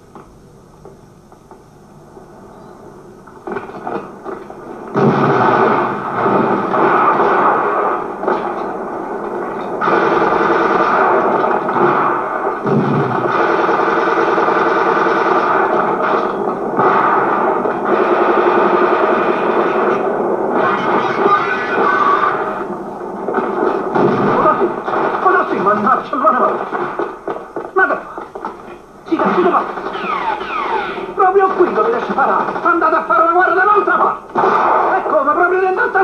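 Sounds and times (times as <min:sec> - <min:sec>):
gunfire and battle noise: 0:03.4 - 0:36.0.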